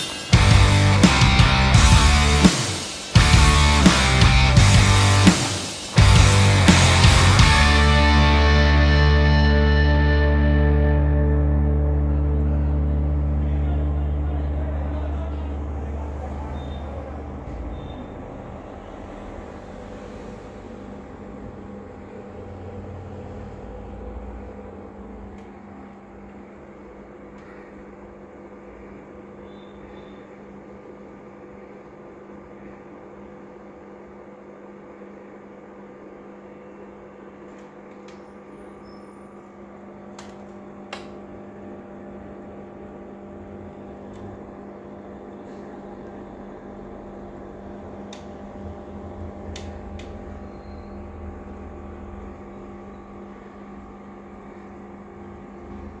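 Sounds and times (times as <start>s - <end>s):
aquarium pump humming: 0.0s - 56.0s.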